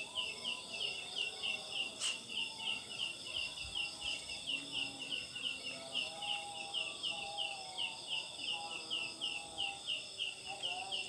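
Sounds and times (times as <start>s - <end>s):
fainter lower insect calls: 0.0s - 11.0s
insect chirping: 0.0s - 11.0s.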